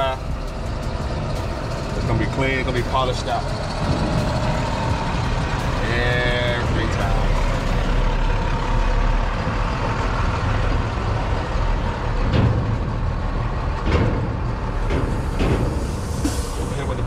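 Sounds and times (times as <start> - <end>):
large engine rumbling: 0.0 - 17.0.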